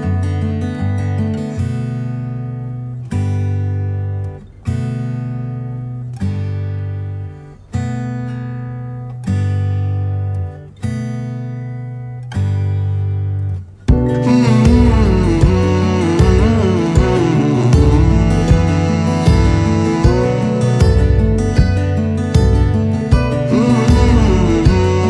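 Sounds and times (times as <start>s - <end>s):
strummed acoustic guitar chords: 0.0s - 25.0s.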